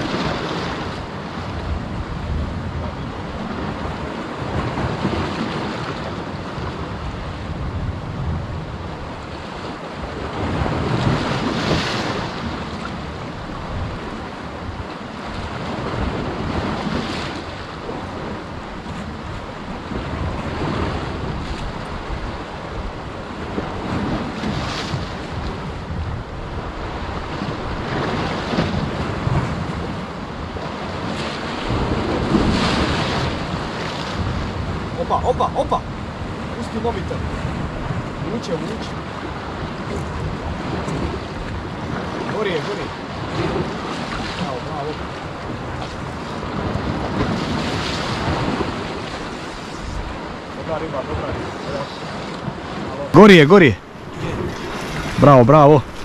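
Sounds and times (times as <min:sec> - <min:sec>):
waves breaking on rocky shore: 0:00.0 - 0:56.0
wind buffeting microphone: 0:00.0 - 0:56.0.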